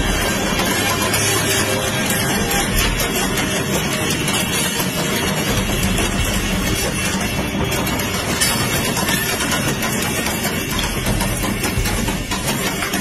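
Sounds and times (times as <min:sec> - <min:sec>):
locomotive rumbling and humming: 0:00.0 - 0:13.0.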